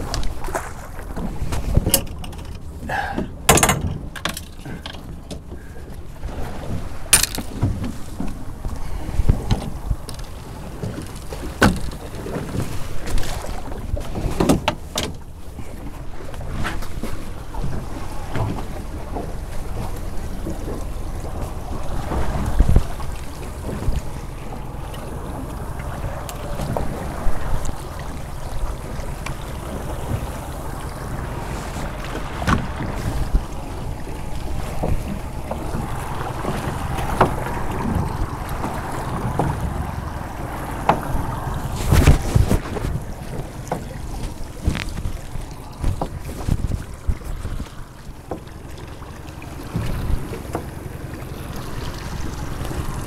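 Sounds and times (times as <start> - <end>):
wind on microphone: 0.0 - 4.0, 4.7 - 48.4, 49.5 - 53.0
outboard motor rumble: 0.0 - 53.0
water along boat hull: 0.0 - 53.0.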